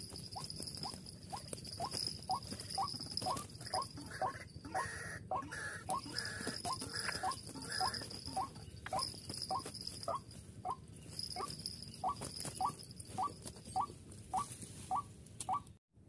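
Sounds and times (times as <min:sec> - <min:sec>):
bird flapping and rustling: 0:00.0 - 0:04.0, 0:06.2 - 0:15.5
waterhen calling: 0:01.8 - 0:10.8, 0:11.4 - 0:15.7.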